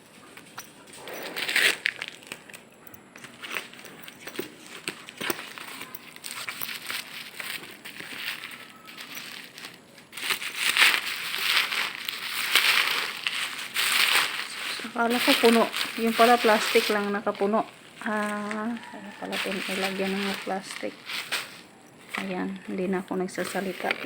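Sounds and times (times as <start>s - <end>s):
plastic packaging crinkling: 0.1s - 24.0s.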